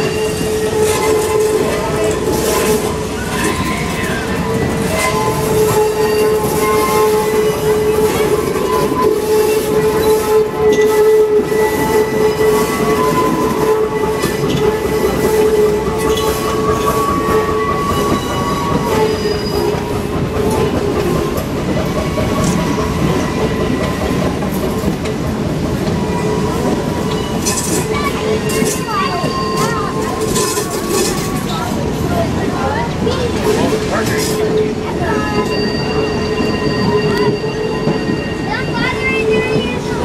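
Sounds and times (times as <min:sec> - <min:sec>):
train cars rumbling: 0:00.0 - 0:40.0
wheels squealing on rails: 0:00.0 - 0:40.0.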